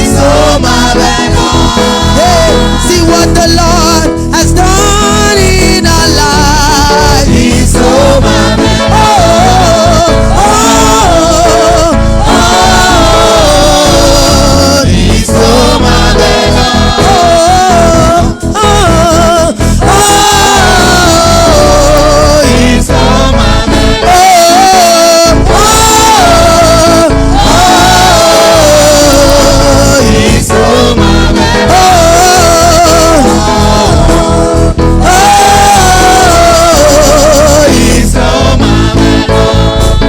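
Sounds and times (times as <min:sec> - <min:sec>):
person singing with vibrato: 0:00.0 - 0:40.0.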